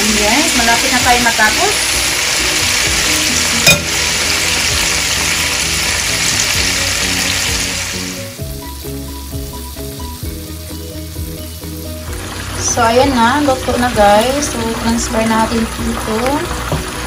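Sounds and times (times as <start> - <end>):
background music: 0.0 - 17.0
chicken sizzling in oil: 0.0 - 17.0.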